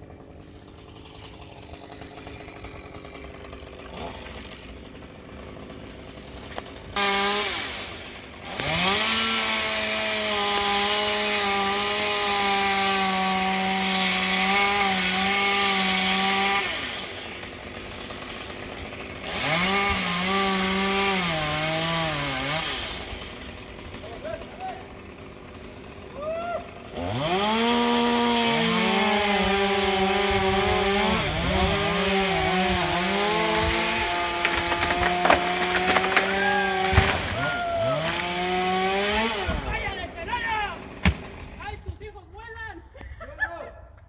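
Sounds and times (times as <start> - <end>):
chainsaw cutting wood: 0.0 - 41.8.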